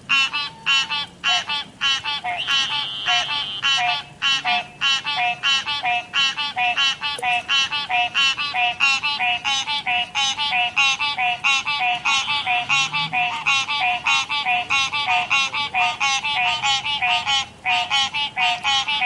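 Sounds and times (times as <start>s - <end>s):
tree frogs calling: 0.0s - 19.0s.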